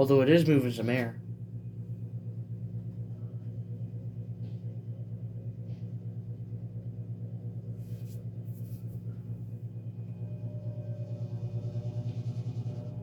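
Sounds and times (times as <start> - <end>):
ceiling fan motor buzzing hum: 0.0 - 13.0.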